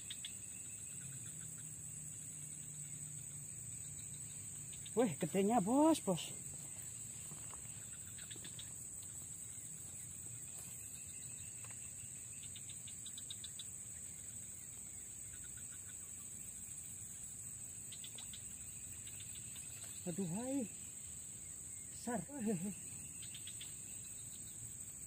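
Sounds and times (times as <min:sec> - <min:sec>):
high-pitched insect drone: 0:00.0 - 0:25.0
quick insect chirps: 0:00.0 - 0:25.0.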